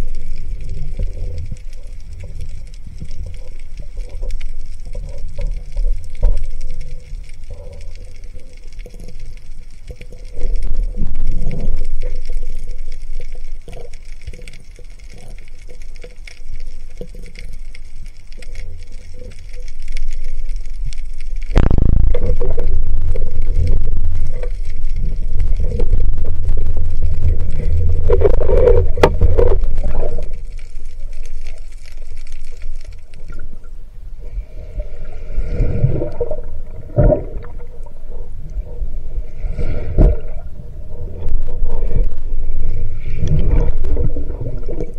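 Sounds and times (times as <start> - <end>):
underwater water wash: 0.0 - 44.9
water gurgling: 0.0 - 44.9.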